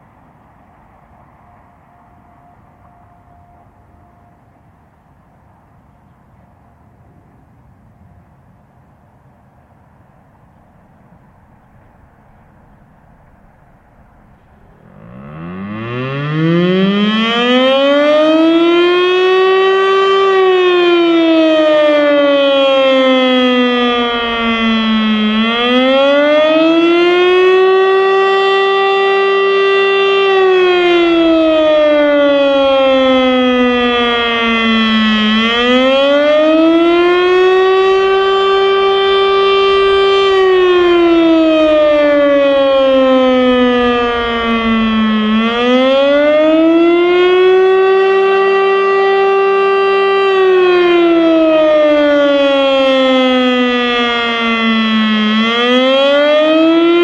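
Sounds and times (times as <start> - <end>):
warning siren slow wail: 0.9 - 6.7, 12.0 - 57.0.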